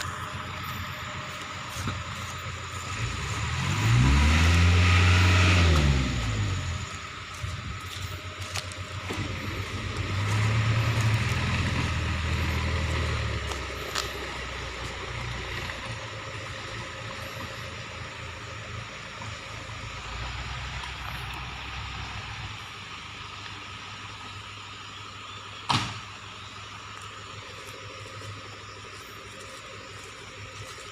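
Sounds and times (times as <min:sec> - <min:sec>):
vehicle engine running: 0:00.0 - 0:30.9.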